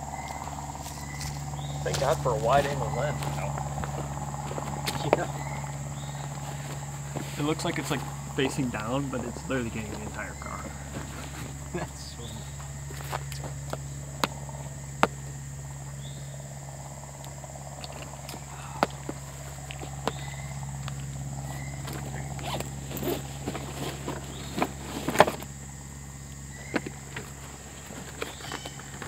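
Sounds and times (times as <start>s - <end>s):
insect drone: 0.0s - 29.0s.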